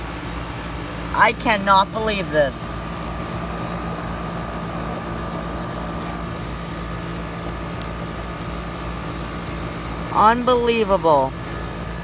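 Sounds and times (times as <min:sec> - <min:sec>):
heat pump hum: 0:00.0 - 0:12.0.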